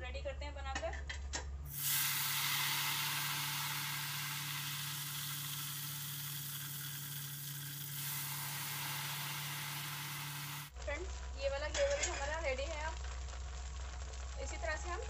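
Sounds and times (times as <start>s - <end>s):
batter sizzling in hot oil: 1.7s - 15.0s.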